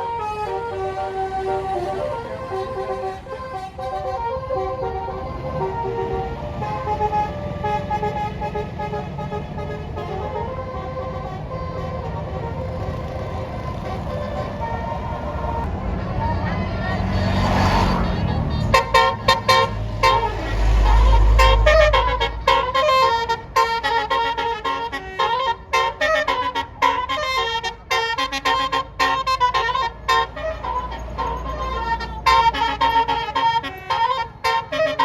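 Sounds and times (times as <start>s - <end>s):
musical air horn tune: 0.0s - 15.7s, 18.6s - 35.0s
bus engine running: 0.0s - 35.0s.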